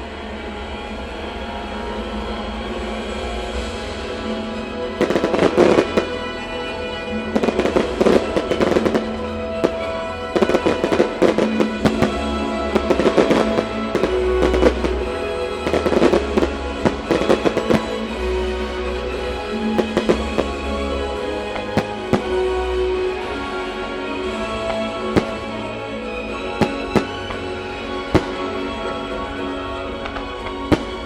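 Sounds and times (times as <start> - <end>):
music soundtrack: 0.0 - 31.0
fireworks bursting and crackling: 3.1 - 31.0.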